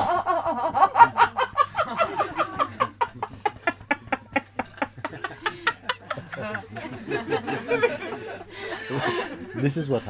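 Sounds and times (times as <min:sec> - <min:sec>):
person laughing: 0:00.0 - 0:09.3.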